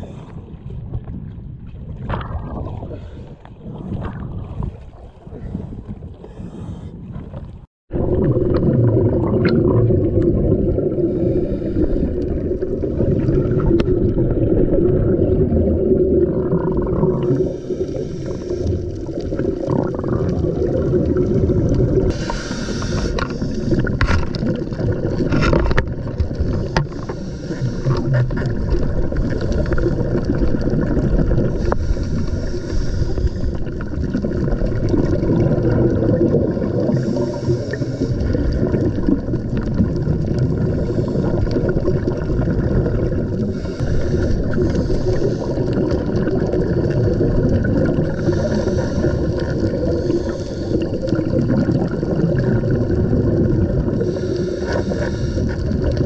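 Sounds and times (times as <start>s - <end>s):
exhaled bubbles gurgling: 0.0s - 56.0s
muffled underwater rumble: 0.0s - 56.0s.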